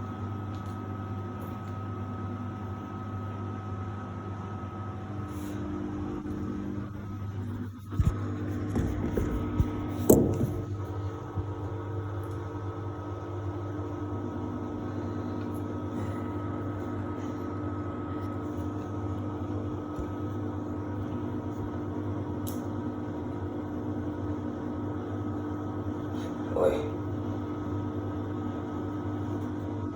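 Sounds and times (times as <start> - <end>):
washer-dryer humming: 0.0 - 29.9.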